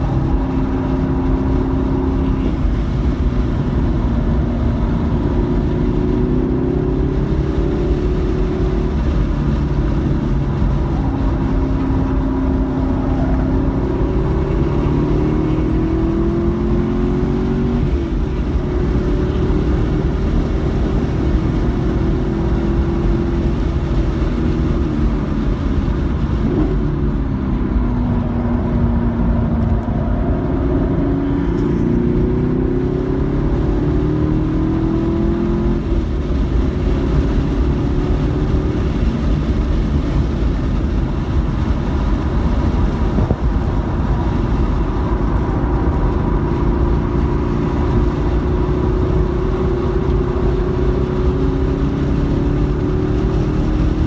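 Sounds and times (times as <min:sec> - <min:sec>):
car engine pulling: 0:00.0 - 0:54.0
road and wind rumble: 0:00.0 - 0:54.0.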